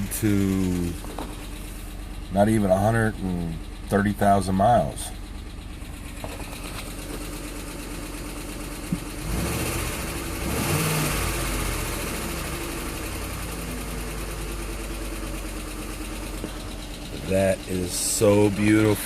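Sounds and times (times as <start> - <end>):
car engine idling and revving: 0.0 - 19.0
rapid engine clicking: 0.0 - 19.0.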